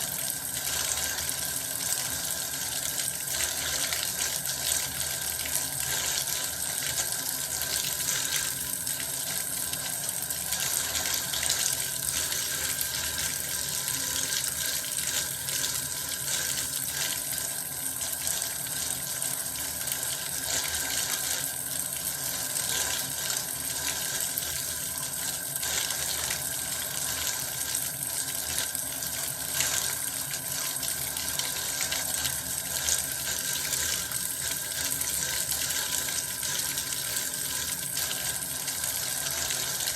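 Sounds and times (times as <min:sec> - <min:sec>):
tap water running into bath: 0:00.0 - 0:39.9.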